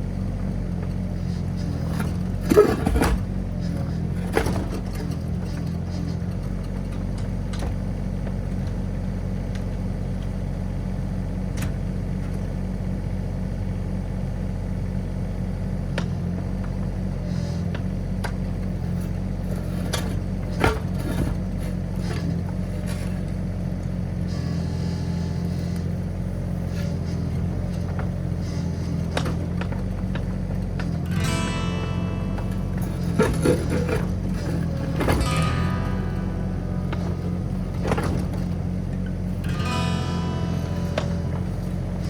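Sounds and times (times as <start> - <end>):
mini excavator diesel engine: 0.0 - 42.0.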